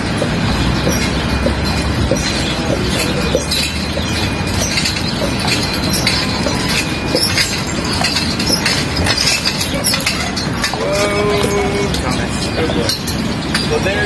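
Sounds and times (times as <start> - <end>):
hooves clopping on asphalt: 0.0 - 13.9.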